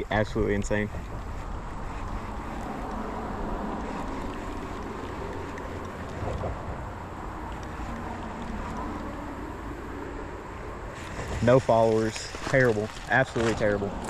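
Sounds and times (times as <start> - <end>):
wind buffeting microphone: 0.0 - 12.5.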